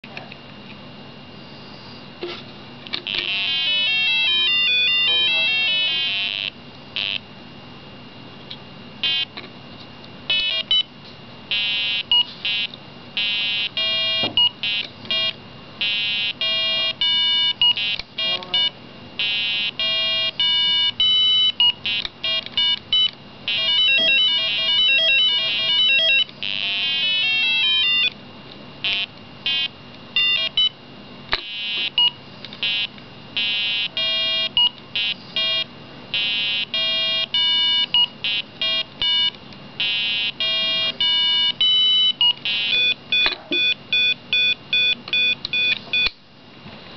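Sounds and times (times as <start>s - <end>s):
electronic buzzer beeps: 3.0s - 7.2s, 9.0s - 9.3s, 10.3s - 10.9s, 11.5s - 28.1s, 28.8s - 30.8s, 31.4s - 46.2s.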